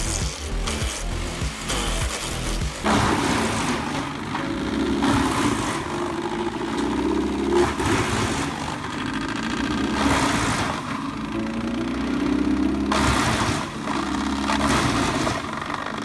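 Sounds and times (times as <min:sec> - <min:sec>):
wood chipper engine running: 0:00.0 - 0:16.0
wood going through chipper: 0:00.0 - 0:16.0.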